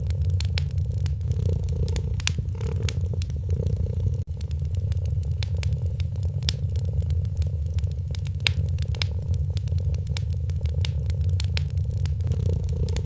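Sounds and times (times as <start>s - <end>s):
cat purring: 0.0s - 13.0s
fire crackling and popping: 0.0s - 13.0s.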